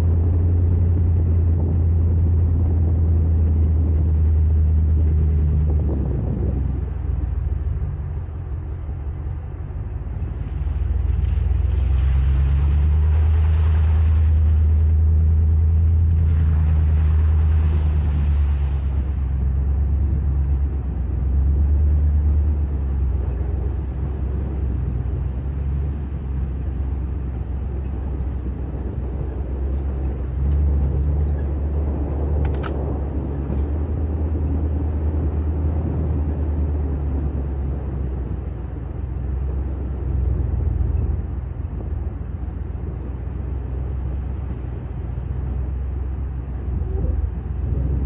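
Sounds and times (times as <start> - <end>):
truck engine rumble: 0.0 - 48.0.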